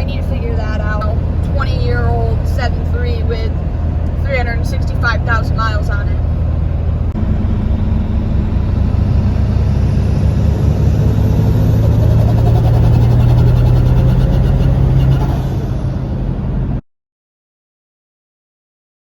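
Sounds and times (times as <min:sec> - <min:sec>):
diesel engine running while driving: 0:00.0 - 0:16.8.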